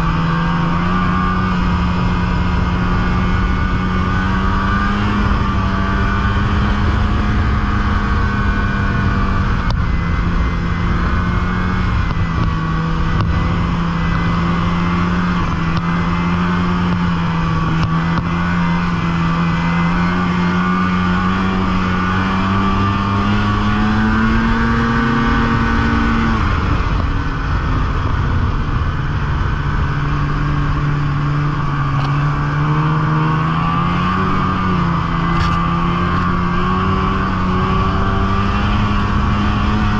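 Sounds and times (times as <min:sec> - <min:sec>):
snowmobile engine droning: 0:00.0 - 0:39.9.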